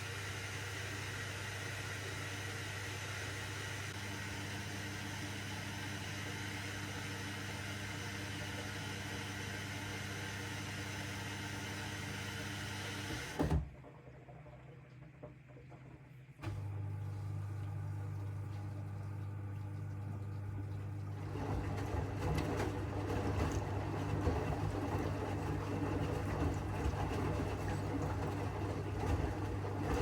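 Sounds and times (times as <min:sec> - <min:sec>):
washing machine humming: 0:00.0 - 0:30.0.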